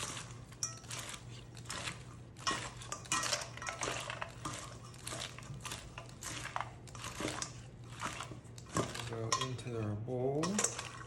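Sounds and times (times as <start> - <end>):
salad rustling in bowl: 0.0 - 9.8
utensils clinking against bowl: 0.0 - 11.0.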